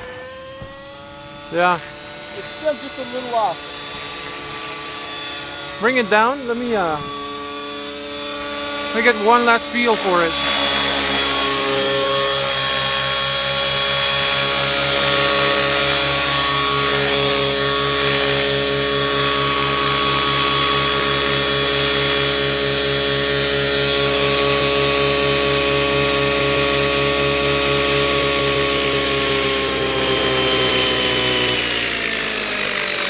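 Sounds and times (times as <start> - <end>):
helicopter rotor beat: 0.0 - 33.0
rc helicopter engine whine: 0.0 - 33.0.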